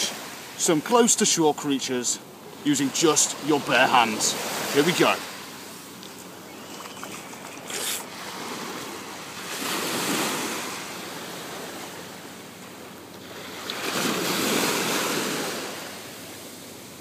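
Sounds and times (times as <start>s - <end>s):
waves breaking on beach: 0.0s - 17.0s.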